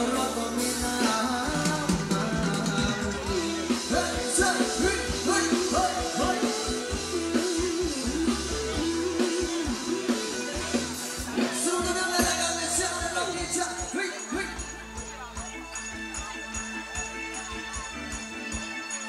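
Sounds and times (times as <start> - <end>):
person singing: 0.0 - 15.5
steady drum beat: 0.0 - 19.0.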